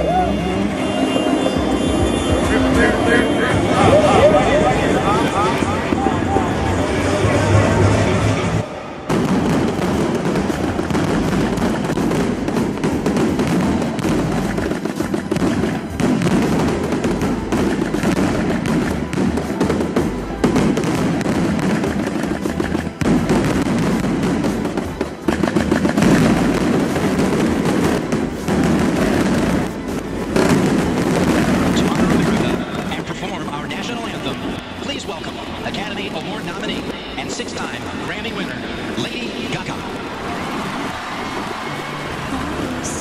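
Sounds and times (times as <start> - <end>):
fireworks crackling and popping: 0.0 - 43.0
music: 0.0 - 43.0.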